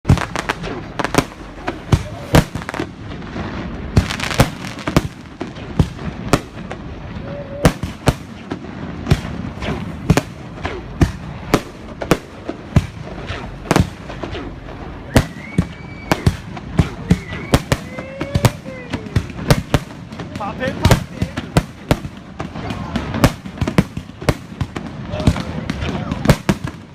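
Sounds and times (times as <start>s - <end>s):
fireworks sharp bangs: 0.0s - 26.9s
rumble from fireworks bursts: 0.0s - 26.9s.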